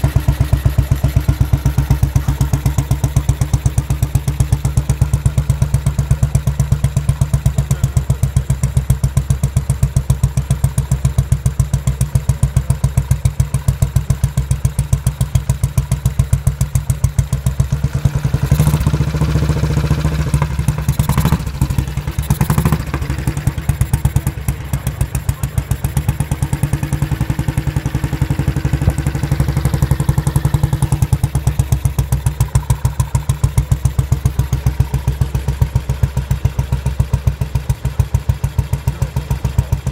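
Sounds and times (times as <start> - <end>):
sharp exhaust cracks: 0.0 - 39.8
motorcycle engine running: 0.0 - 39.9.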